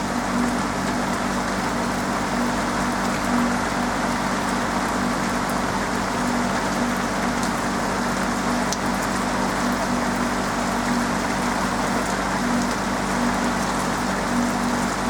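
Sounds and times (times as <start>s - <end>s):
rain falling on a roof: 0.0s - 15.0s.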